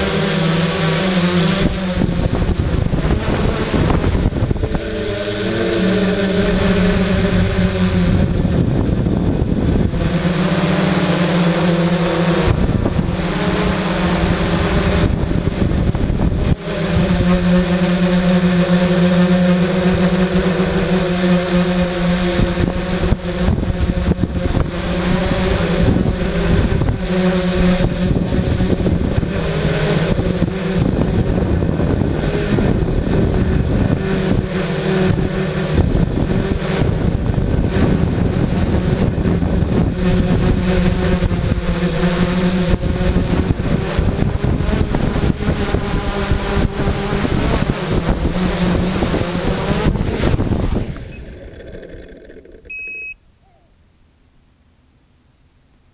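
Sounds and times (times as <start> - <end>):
wind rumble on microphone: 0.0 - 52.4
quadcopter motors whirring: 0.0 - 53.6.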